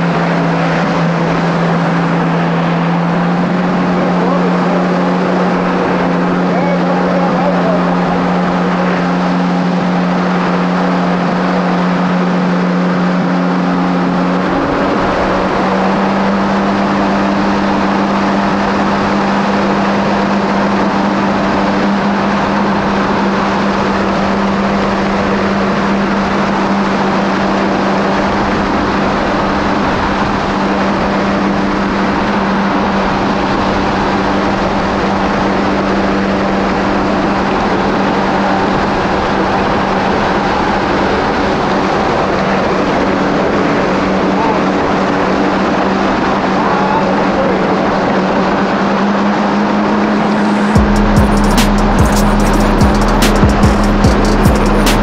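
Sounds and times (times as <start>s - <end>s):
rushing water and wind: 0.0s - 52.0s
jet ski engine running: 0.0s - 55.0s.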